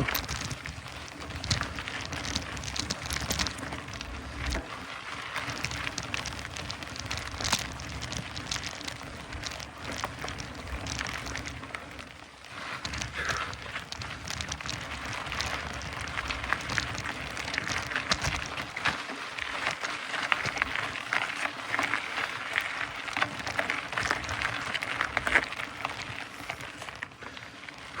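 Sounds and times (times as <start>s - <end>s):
bike tyres crunching on dirt: 0.0s - 28.0s.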